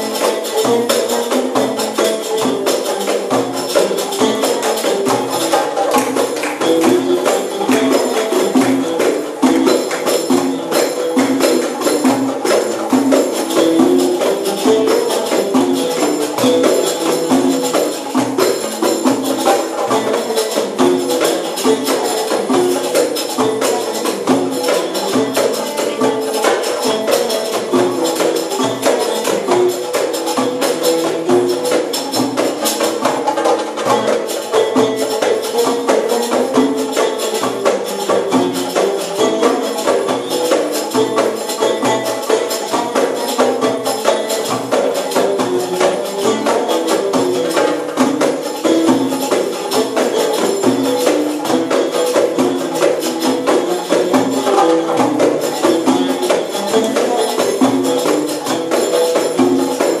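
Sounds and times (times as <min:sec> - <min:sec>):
hand drum strokes: 0:00.0 - 1:00.0
jingling frame drums: 0:00.0 - 1:00.0
plucked lute melody: 0:00.0 - 1:00.0.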